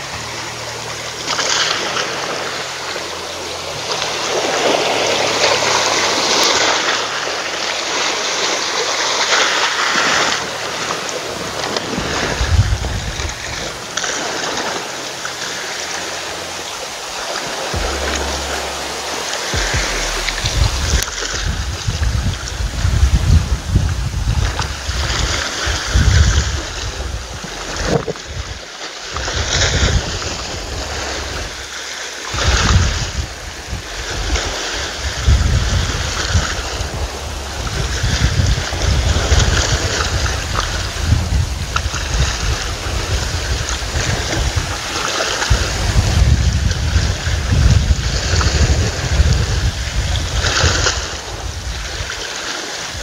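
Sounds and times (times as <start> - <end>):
waves splashing on rocks: 0.0 - 53.0
wind buffeting microphone: 0.0 - 53.0.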